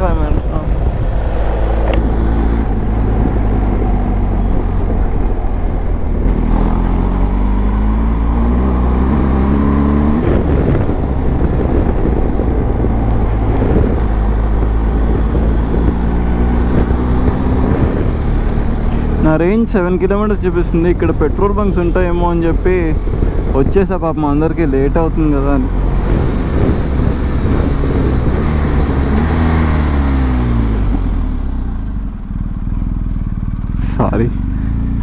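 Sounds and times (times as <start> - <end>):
wind rush: 0.0 - 31.6
motorcycle engine accelerating: 0.0 - 35.0.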